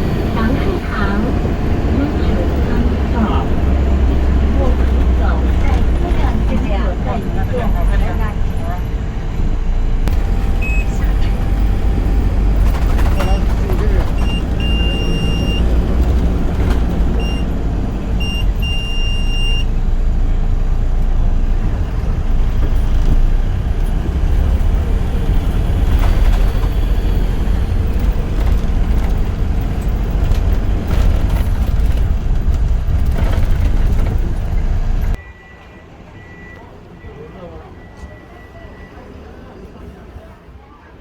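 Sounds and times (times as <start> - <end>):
large vehicle engine rumble: 0.0 - 41.0.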